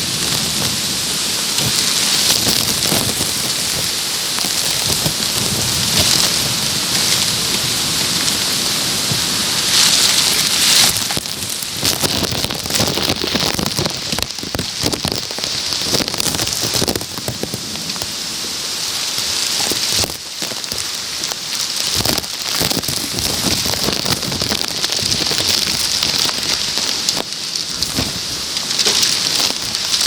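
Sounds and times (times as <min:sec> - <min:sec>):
heavy rain on plastic bag: 0:00.0 - 0:30.0.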